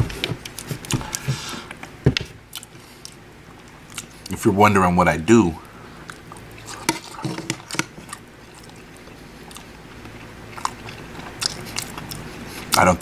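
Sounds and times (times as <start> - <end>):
man chewing food: 0.0 - 4.4, 5.6 - 12.8.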